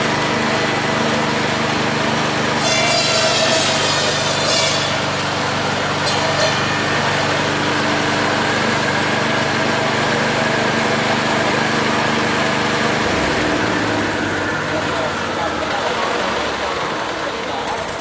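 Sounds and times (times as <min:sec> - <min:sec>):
machine motor running: 0:00.0 - 0:18.0.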